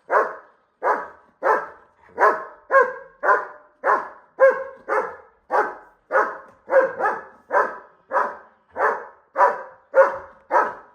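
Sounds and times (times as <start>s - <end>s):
dog barking loudly: 0.0s - 10.9s.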